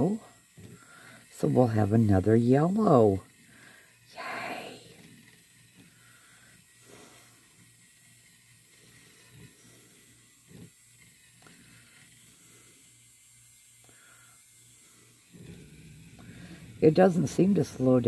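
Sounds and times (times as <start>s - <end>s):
handheld mixer humming: 0.0s - 18.0s.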